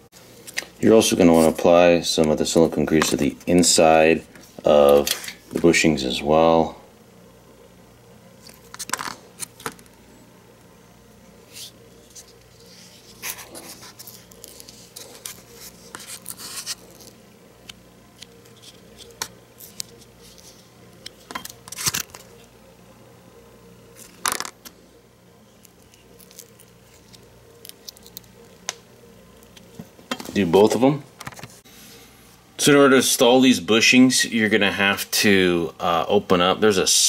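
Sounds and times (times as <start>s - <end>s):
faint hum: 0.0s - 37.0s.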